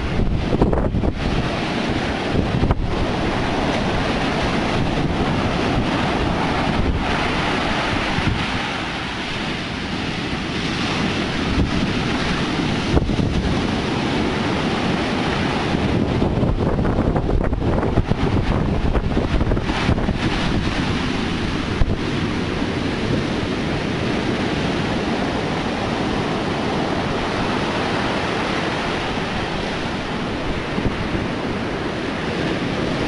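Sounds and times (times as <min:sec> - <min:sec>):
heavy surf breaking on beach: 0:00.0 - 0:33.0
wind buffeting microphone: 0:00.0 - 0:33.0.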